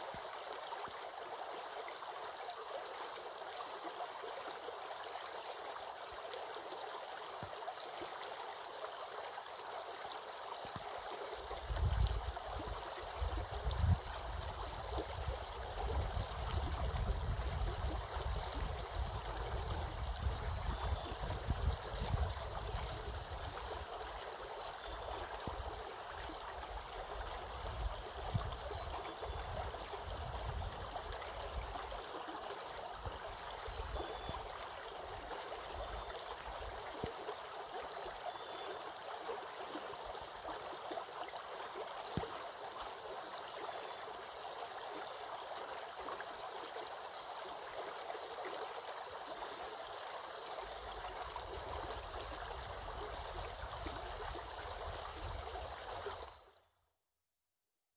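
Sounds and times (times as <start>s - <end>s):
stream running under snow: 0.0s - 56.5s.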